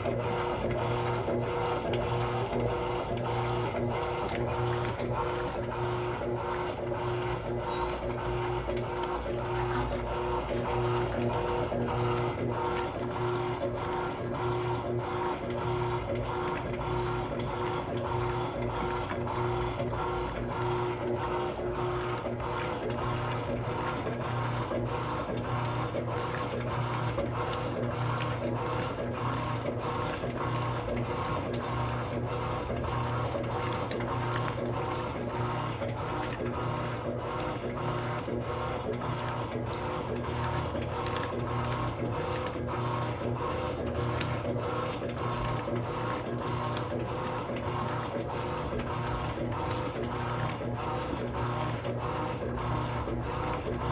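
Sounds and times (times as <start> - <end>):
washing machine running: 0.0 - 53.9.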